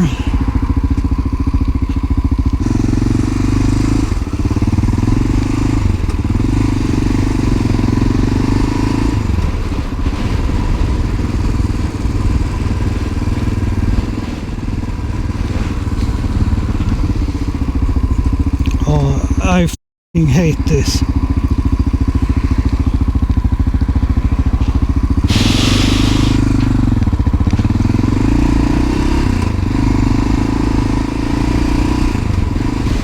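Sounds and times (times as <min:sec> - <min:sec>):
motorcycle engine running: 0:00.0 - 0:19.4, 0:20.5 - 0:33.0.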